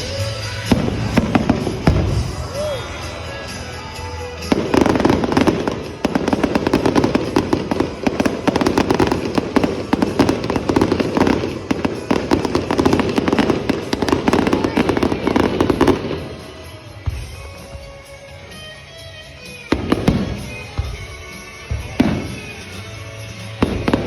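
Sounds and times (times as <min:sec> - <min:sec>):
fireworks bangs and crackles: 0:00.0 - 0:18.6, 0:19.3 - 0:24.0.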